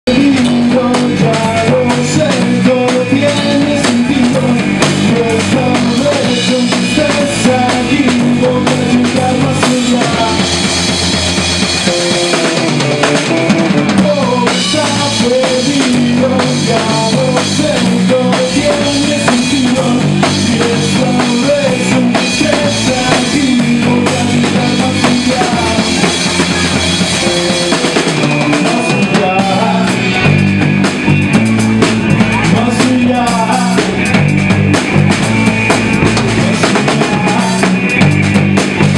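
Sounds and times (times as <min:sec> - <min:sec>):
band music: 0:00.0 - 0:38.9
drum kit playing: 0:00.0 - 0:38.9.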